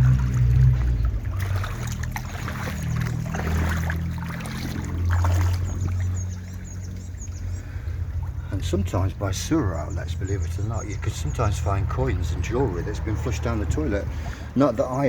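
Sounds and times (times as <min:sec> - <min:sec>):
low rumble: 0:00.0 - 0:14.6
boots wading through water: 0:00.0 - 0:15.0.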